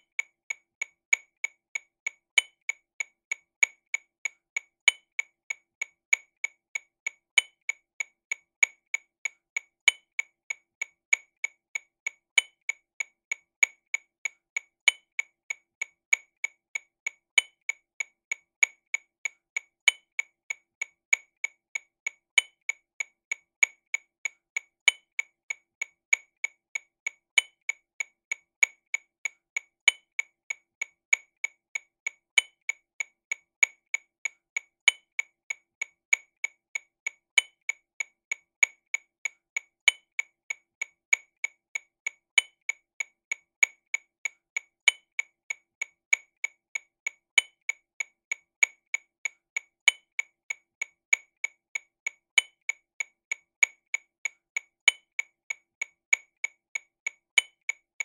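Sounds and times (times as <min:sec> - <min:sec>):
accented metronome click: 0:00.0 - 0:58.0.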